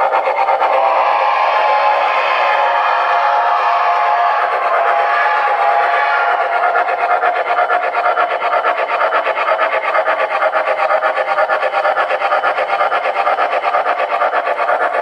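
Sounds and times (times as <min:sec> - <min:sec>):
model locomotive steam chuffing: 0:00.0 - 0:15.0.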